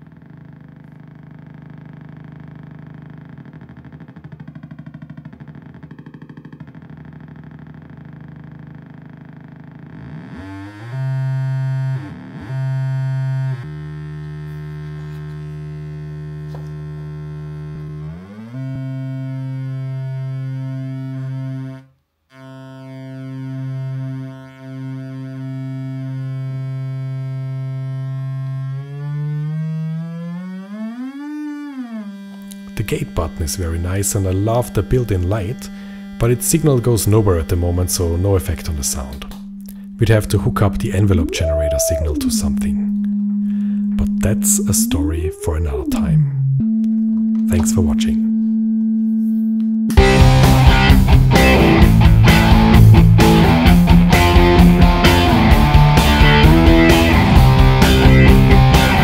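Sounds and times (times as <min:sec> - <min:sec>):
low buzzing synth drone: 0:00.0 - 0:59.0.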